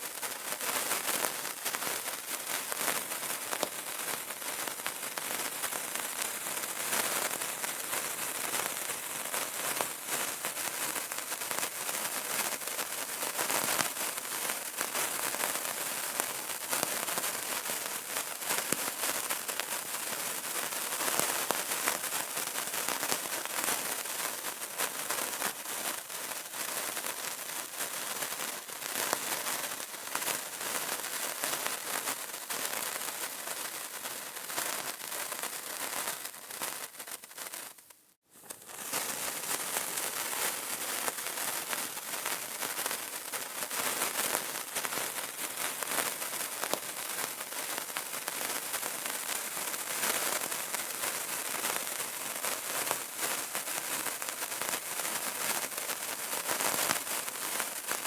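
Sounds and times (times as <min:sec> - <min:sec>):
candle crackling: 0:00.0 - 0:58.0.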